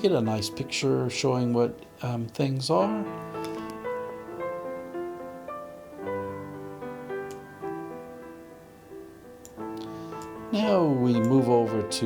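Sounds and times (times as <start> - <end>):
soft keyboard notes: 0.0 - 12.0.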